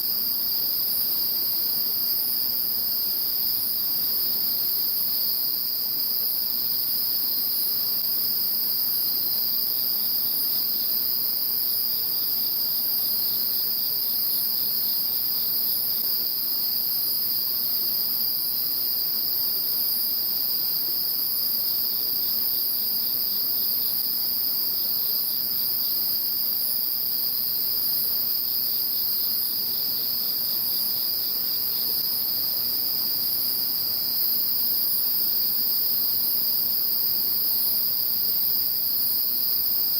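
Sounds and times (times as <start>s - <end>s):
rapid ticking insect trills: 0.1s - 39.9s.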